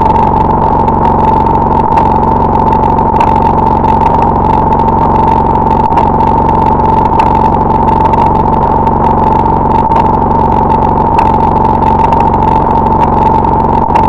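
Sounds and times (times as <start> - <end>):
distorted electronic drone: 0.0 - 14.0.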